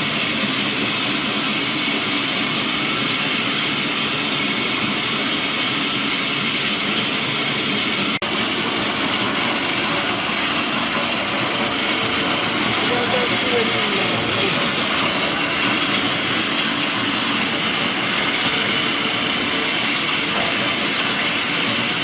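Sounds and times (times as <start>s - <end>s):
loud hissing machine: 0.0s - 22.0s.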